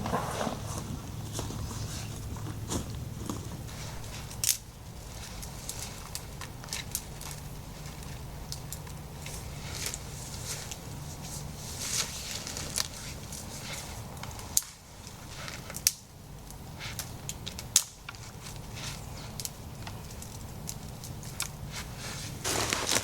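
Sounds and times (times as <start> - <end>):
wood snapping and crackling: 0.8 - 23.0.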